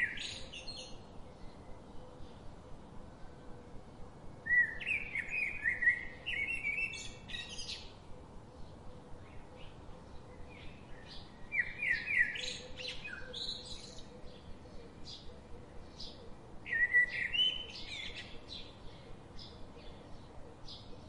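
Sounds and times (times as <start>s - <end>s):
faint steady hum: 0.0s - 21.0s
songbird chirping: 0.0s - 21.0s.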